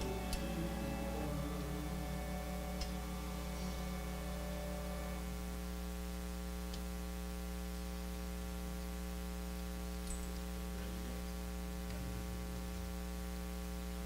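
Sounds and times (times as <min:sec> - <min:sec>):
electrical mains hum with hiss: 0:00.0 - 0:14.0.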